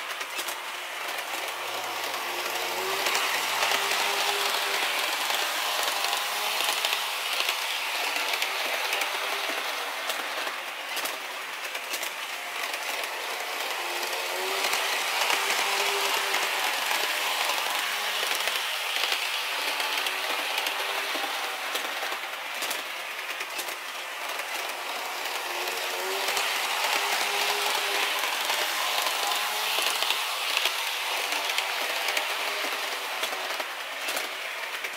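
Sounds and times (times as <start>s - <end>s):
model train wheels clicking on rails: 0.0s - 34.9s.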